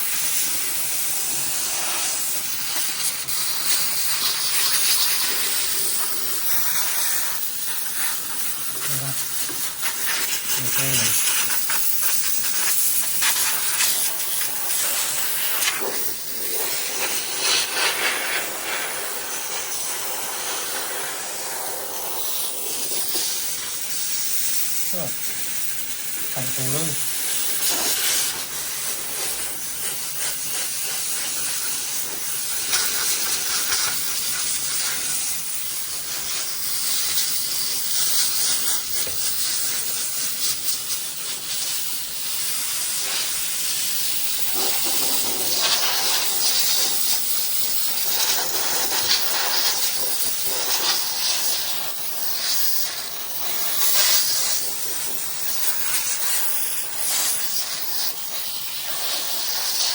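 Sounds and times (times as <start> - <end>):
steam cleaner hissing: 0.0 - 59.9.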